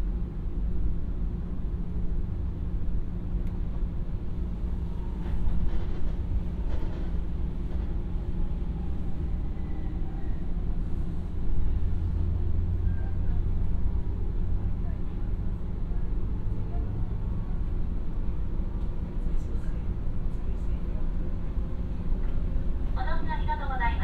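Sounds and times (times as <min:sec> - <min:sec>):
passing train rush with whine: 0:00.0 - 0:24.0
wheels rumbling on rails: 0:00.0 - 0:24.0.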